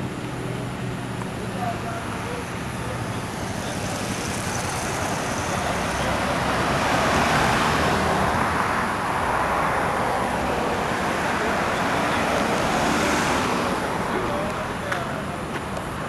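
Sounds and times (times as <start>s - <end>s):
car passing on road: 0.0s - 16.0s.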